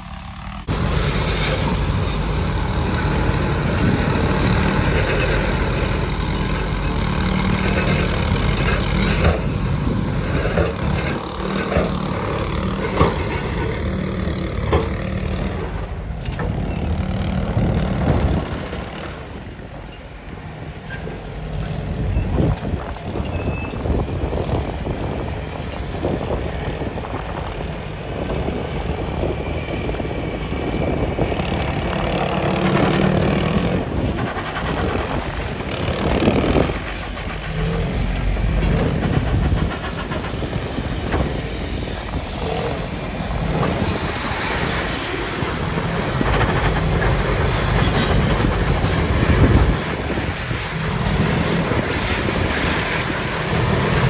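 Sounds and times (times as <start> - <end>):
steam shovel engines clanking: 0.0 - 54.0.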